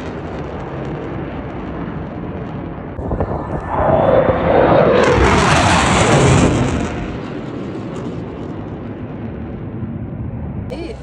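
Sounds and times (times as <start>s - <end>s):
jet aircraft roar: 0.0s - 11.0s.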